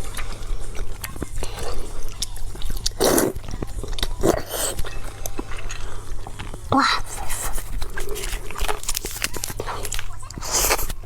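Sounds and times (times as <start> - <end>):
close chewing: 0.0 - 11.0.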